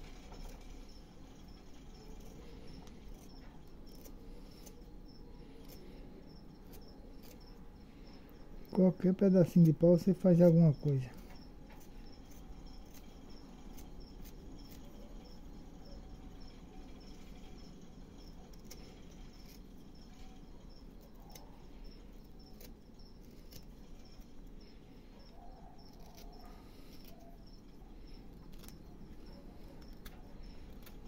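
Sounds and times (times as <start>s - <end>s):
faint high insect chirp: 0.0s - 31.0s.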